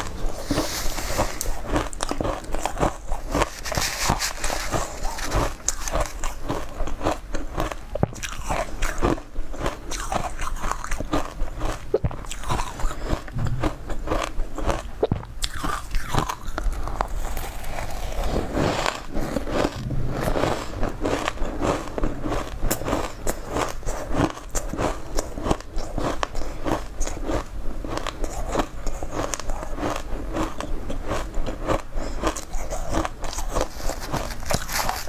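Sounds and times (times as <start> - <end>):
crunching and chewing ice: 0.0 - 35.0.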